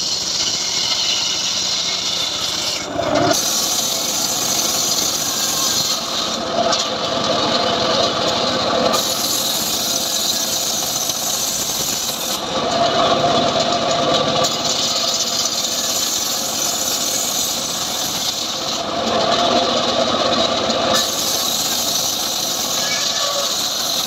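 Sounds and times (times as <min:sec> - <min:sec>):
sawmill saw cutting wood: 0:00.0 - 0:24.0.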